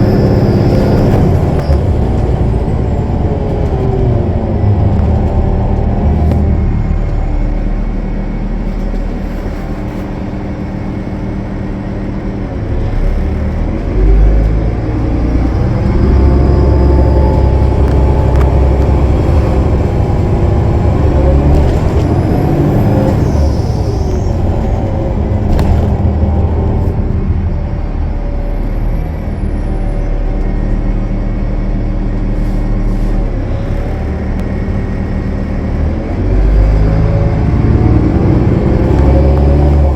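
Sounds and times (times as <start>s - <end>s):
bus diesel engine accelerating: 0.0s - 39.9s.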